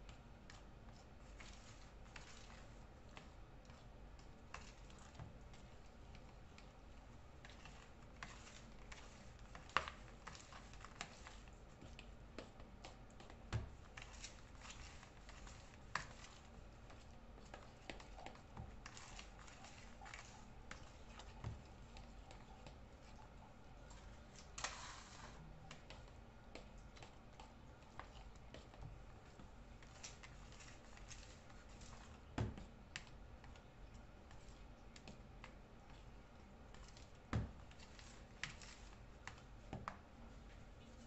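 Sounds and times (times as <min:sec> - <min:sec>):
batter stirred in plastic bowl: 0:00.0 - 0:41.0.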